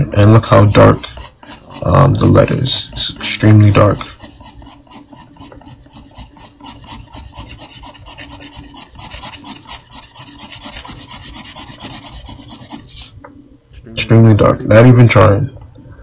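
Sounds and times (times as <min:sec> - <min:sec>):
pencil scratching on paper: 0:00.0 - 0:13.1.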